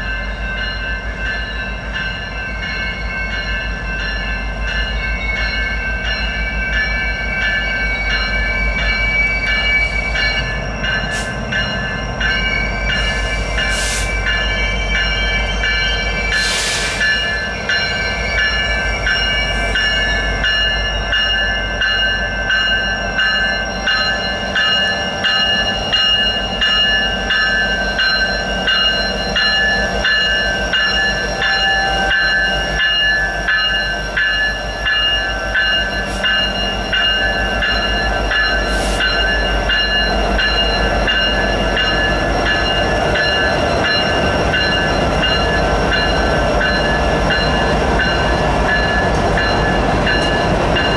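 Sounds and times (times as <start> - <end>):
crossing bell ringing: 0.0 - 50.9
diesel locomotive engines running: 0.0 - 50.9
train wheels rumbling and clattering: 0.0 - 50.9.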